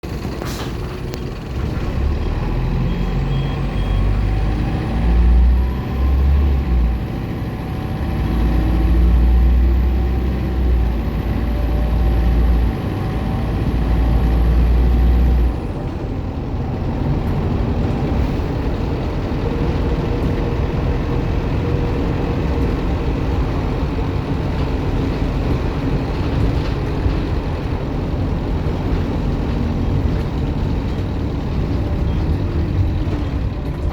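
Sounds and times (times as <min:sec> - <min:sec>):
bus diesel engine under load: 0:00.0 - 0:33.9.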